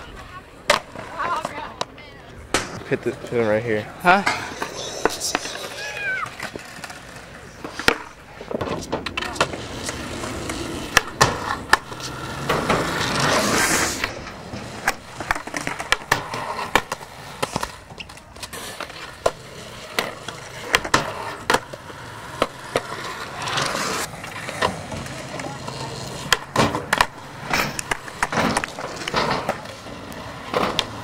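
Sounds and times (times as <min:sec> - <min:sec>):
skateboard wheels rolling on concrete: 0:00.0 - 0:31.0
skateboards clacking on ground: 0:00.0 - 0:31.0.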